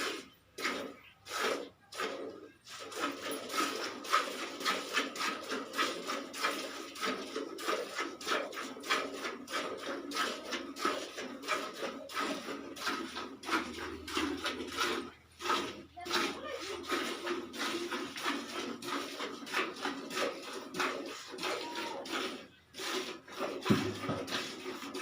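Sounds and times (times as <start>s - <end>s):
milk squirting into a pail: 0.0s - 25.0s.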